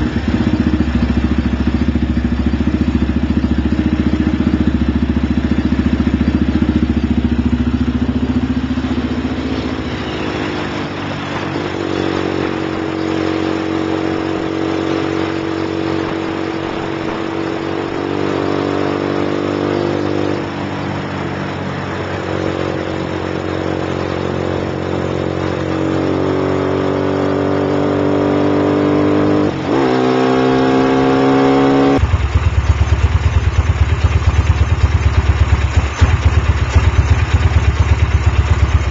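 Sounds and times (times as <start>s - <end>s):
motorcycle engine running loud: 0.0s - 38.9s.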